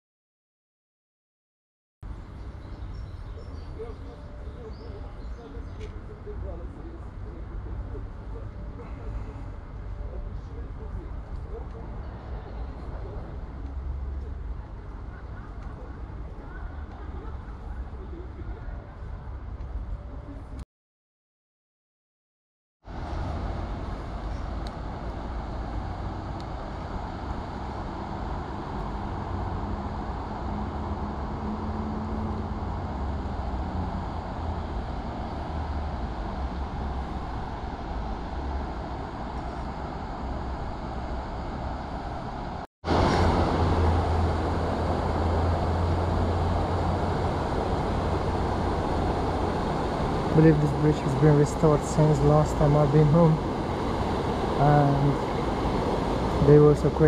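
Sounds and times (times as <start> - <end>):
distant city traffic: 2.0 - 20.6, 22.9 - 57.0
low rumble and hiss: 2.2 - 20.6, 23.0 - 57.0.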